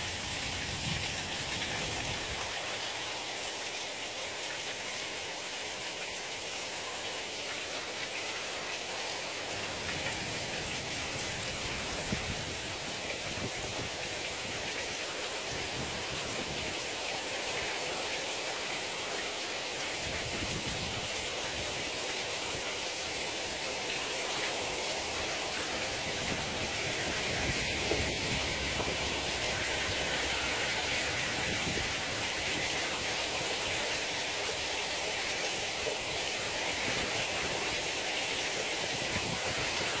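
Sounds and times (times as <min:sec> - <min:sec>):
heavy rain pouring on street: 0:00.0 - 0:40.0.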